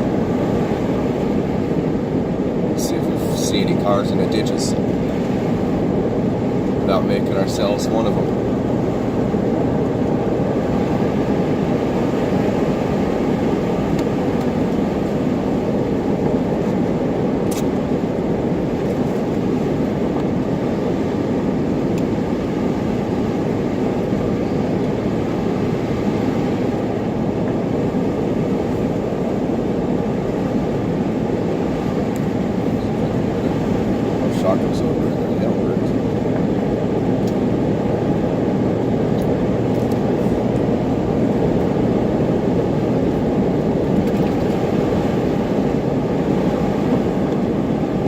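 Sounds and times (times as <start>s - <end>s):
car engine and tyre noise: 0.0s - 48.0s.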